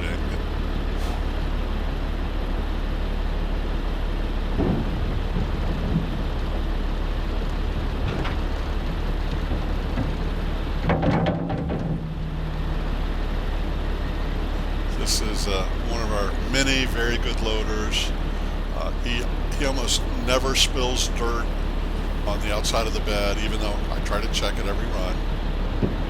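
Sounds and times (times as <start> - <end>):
diesel engines rumbling: 0.0 - 26.0.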